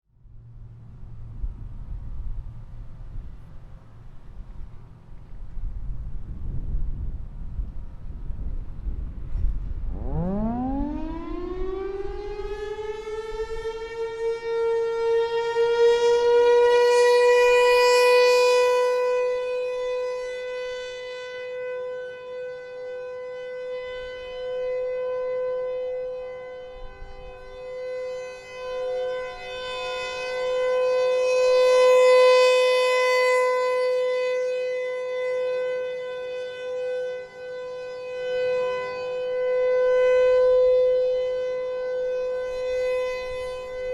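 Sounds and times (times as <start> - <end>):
rotating warning siren: 8.1 - 43.9.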